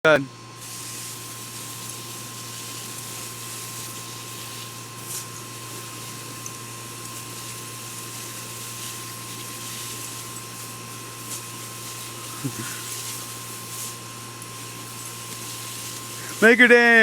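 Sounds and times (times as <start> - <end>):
garden hose spraying water: 0.1 - 17.0.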